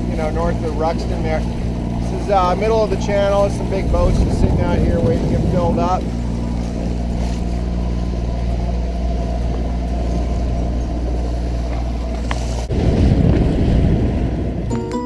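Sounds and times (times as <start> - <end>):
boat engine humming: 0.0 - 15.0
rushing noise: 0.0 - 15.0.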